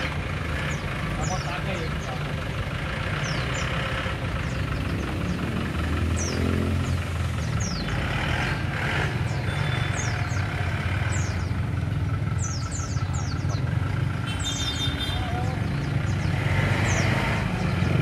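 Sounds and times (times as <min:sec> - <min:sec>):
suv engine deep rumble: 0:00.0 - 0:18.0.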